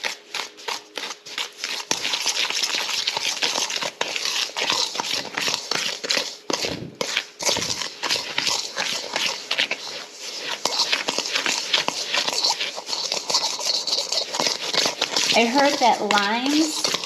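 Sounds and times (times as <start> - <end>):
fast beating in mixing bowl: 0.0 - 17.0
scraping strokes in mixing bowl: 0.0 - 17.0.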